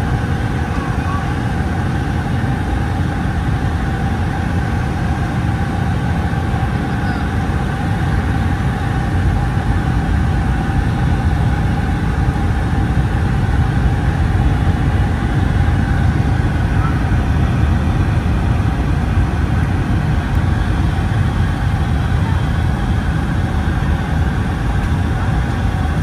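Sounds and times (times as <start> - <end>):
aircraft cabin engine drone: 0.0 - 26.0
constant hums: 0.0 - 26.0.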